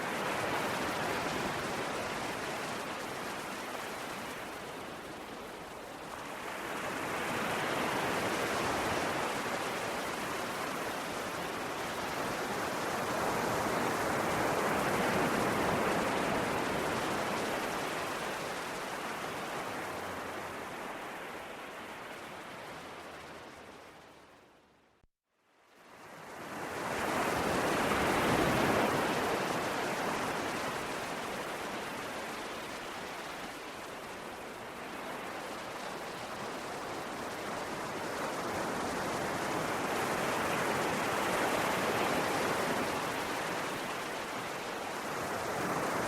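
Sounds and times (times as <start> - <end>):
ocean waves washing ashore: 0.0 - 24.6, 25.8 - 46.0.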